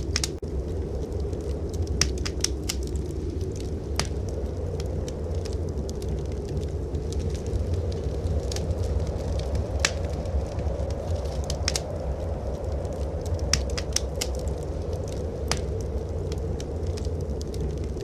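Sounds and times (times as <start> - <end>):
blizzard wind rumble: 0.0 - 18.0
wood fire crackling and popping: 0.0 - 18.0.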